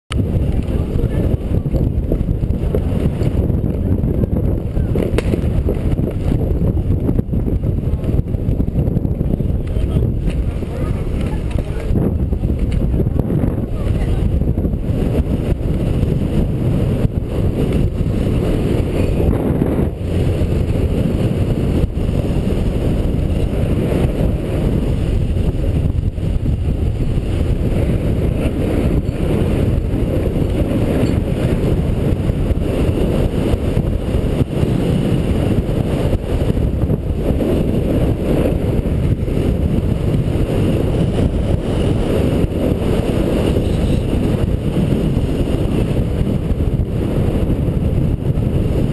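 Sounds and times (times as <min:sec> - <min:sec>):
wind buffeting microphone: 0:00.1 - 0:48.9.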